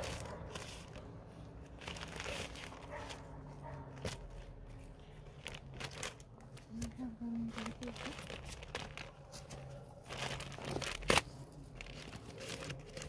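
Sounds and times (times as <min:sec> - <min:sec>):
bag crinkling and rustling: 0:00.0 - 0:13.0.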